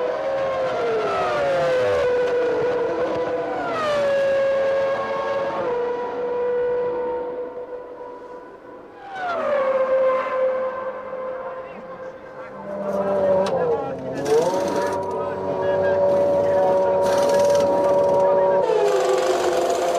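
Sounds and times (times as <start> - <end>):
racing car engines passing: 0.0 - 19.9.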